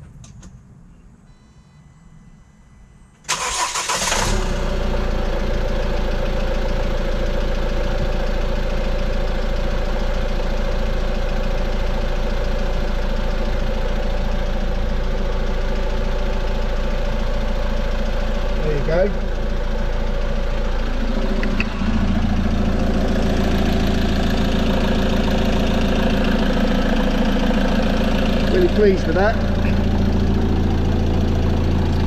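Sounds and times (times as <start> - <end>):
diesel engine starting and idling: 3.1 - 32.0.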